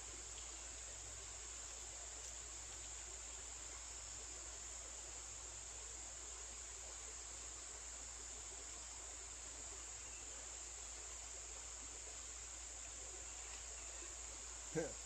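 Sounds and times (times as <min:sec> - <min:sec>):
flowing creek water: 0:00.0 - 0:15.0
insect chorus trilling: 0:00.2 - 0:15.0.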